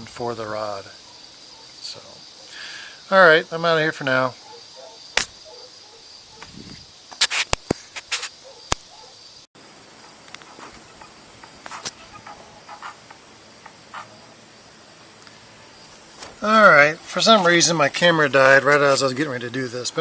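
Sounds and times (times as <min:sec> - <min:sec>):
faint high hiss: 0:00.0 - 0:20.0.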